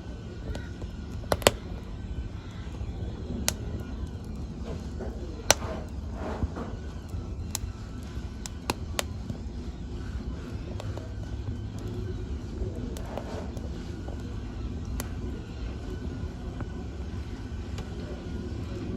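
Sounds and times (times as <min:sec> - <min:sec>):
fire crackling and popping: 0:00.0 - 0:18.9
wood fire flames rumbling: 0:00.0 - 0:18.9.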